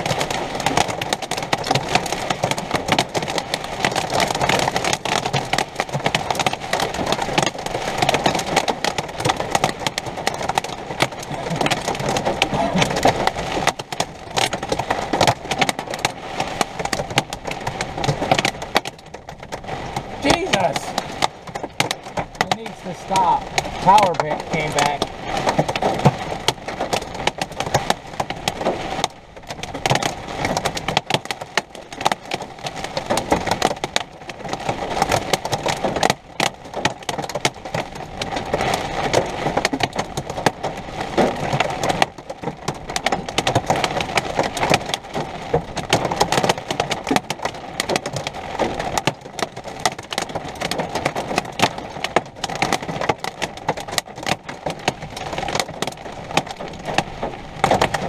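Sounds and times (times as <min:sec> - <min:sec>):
heavy rain pelting down: 0:00.0 - 0:58.0.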